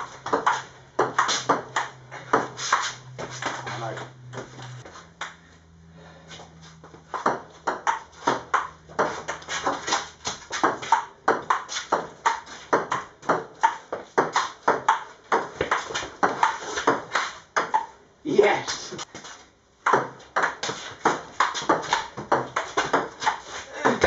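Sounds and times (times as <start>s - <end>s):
table tennis ball hitting bats and table: 0.0s - 5.4s, 6.8s - 18.0s, 19.1s - 24.0s.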